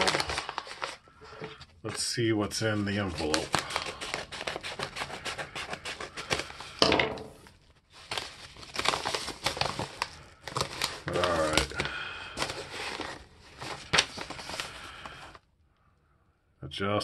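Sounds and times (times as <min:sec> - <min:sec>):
paper crinkling and rustling: 0:00.0 - 0:06.8, 0:07.4 - 0:15.4.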